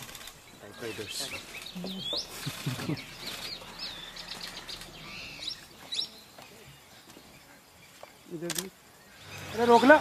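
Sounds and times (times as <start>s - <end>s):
wild birds chirping: 0.0s - 10.0s.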